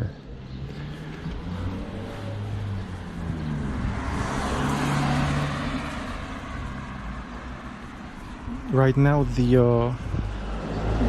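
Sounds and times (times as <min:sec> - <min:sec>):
car passing by: 0:00.6 - 0:11.0.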